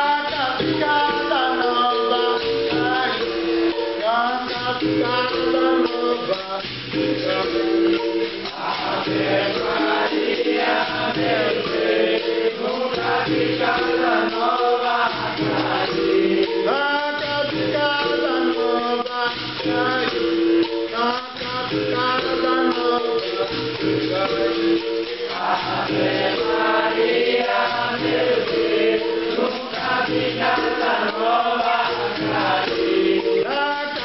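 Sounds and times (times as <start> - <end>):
shaken rattle: 0.0 - 34.0
tambourine jingling: 0.0 - 34.0
voices singing together: 0.0 - 34.0.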